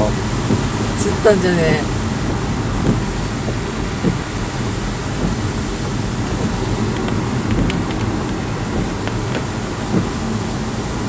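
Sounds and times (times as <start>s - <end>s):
low car rumble: 0.0s - 11.0s
tyres on wet road: 0.0s - 11.0s.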